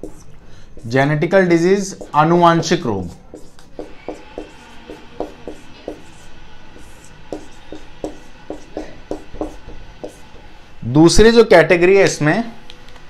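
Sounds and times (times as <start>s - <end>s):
marker writing on whiteboard: 0.0s - 10.6s.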